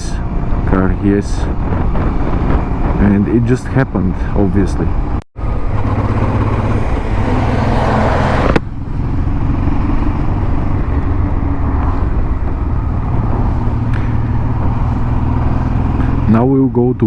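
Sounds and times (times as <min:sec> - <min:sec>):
motorcycle engine running: 0:00.0 - 0:03.7, 0:04.9 - 0:17.0
wind noise: 0:00.0 - 0:16.3
road noise: 0:00.0 - 0:17.0.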